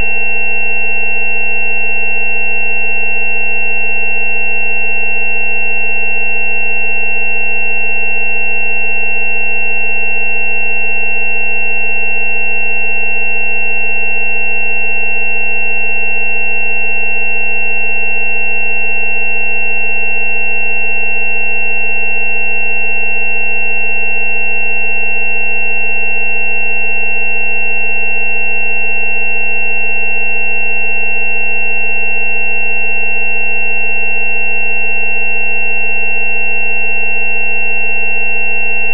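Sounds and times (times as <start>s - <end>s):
low sine-wave tone: 0.0s - 38.9s.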